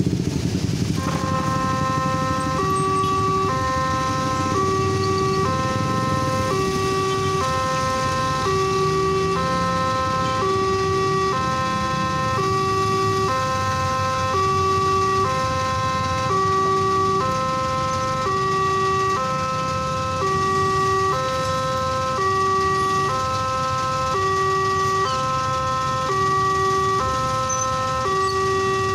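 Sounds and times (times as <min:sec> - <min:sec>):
level-crossing two-note alarm: 0:01.0 - 0:28.9.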